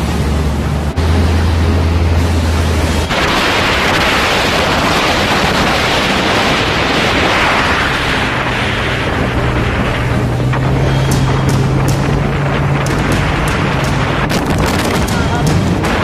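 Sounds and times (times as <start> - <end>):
boat engine hum: 0.0 - 16.0
churning water: 0.0 - 16.0
rush of wind: 0.0 - 16.0.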